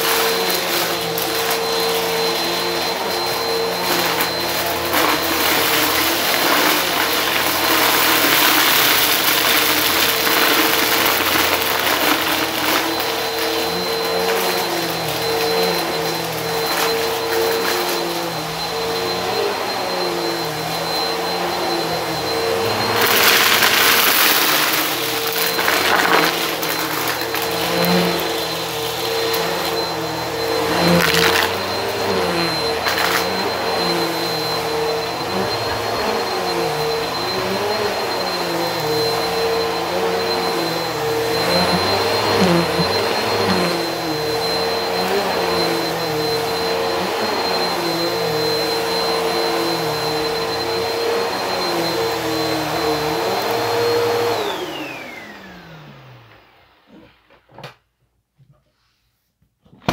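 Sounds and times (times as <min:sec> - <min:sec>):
vacuum cleaner motor whine: 0:00.0 - 0:57.8.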